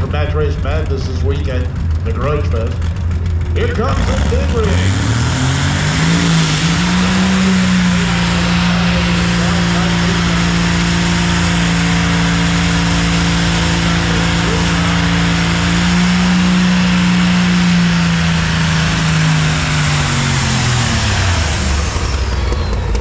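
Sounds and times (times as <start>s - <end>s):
diesel truck engine: 0.0s - 23.0s.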